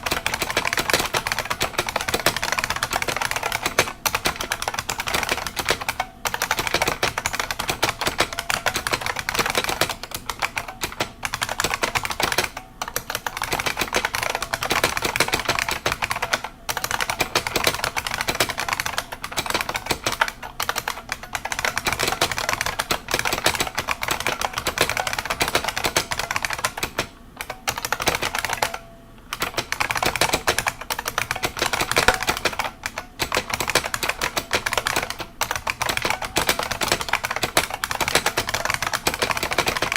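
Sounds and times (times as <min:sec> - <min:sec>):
keyboard keystroke clacks: 0:00.0 - 0:39.9.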